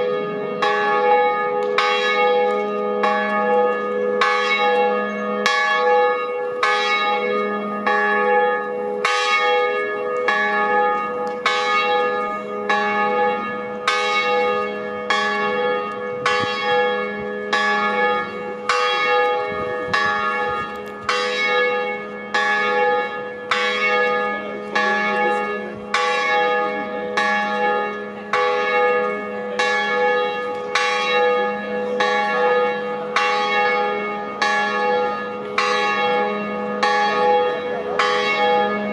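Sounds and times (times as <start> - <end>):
cathedral bells ringing: 0.0 - 38.9.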